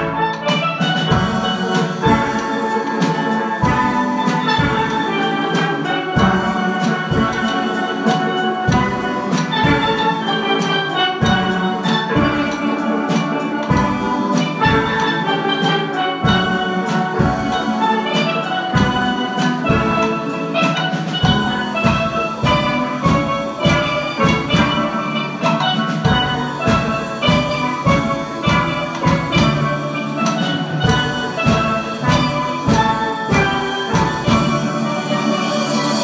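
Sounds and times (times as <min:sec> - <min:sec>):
steady drum beat: 0:00.0 - 0:36.0
steelpans playing melody: 0:00.0 - 0:36.0.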